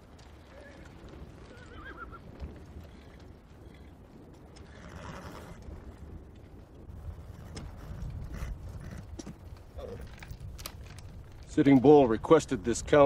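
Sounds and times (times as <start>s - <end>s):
hoof clops: 0.0s - 13.0s.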